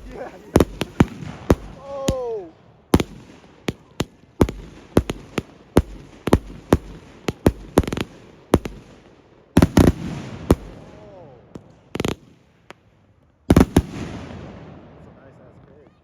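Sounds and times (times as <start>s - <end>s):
fireworks bangs: 0.0s - 12.8s, 13.5s - 16.0s.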